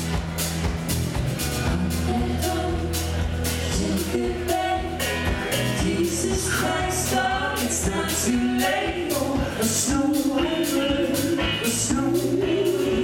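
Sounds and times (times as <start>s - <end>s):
drums keeping a steady beat: 0.0s - 13.0s
electric guitar: 0.0s - 13.0s
woman and man singing: 1.6s - 13.0s.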